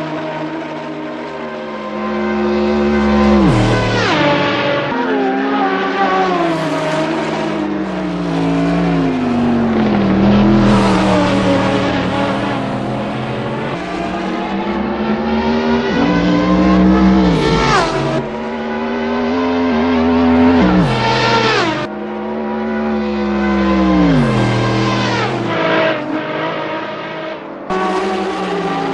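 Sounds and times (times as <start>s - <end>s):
race car engine accelerating: 0.0s - 28.9s.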